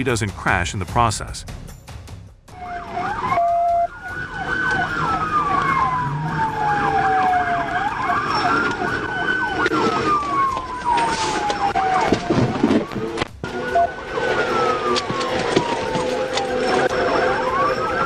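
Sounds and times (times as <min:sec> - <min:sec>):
police siren wailing: 0:02.5 - 0:18.0
police siren yelping: 0:02.5 - 0:18.0
road noise: 0:02.6 - 0:18.0.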